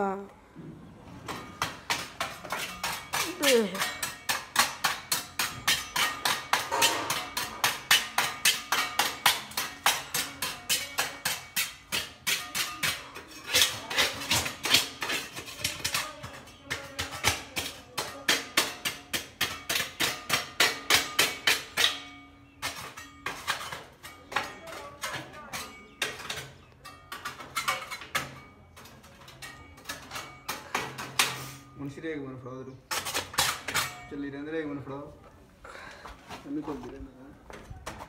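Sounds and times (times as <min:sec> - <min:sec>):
paint scraper scraping metal: 0:01.3 - 0:31.7, 0:32.9 - 0:34.1.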